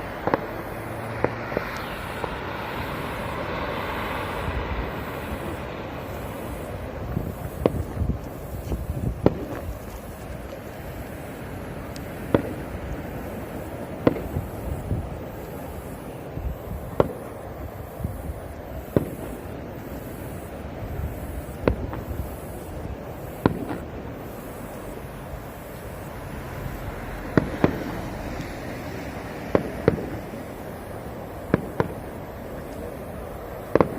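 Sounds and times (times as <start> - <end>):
fireworks bangs: 0.0 - 33.9
low rushing background: 0.0 - 33.9.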